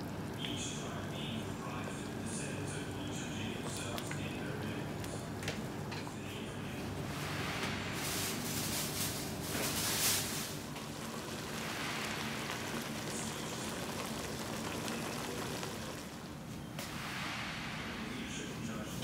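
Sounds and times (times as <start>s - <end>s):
broth boiling hard: 0.0s - 19.0s.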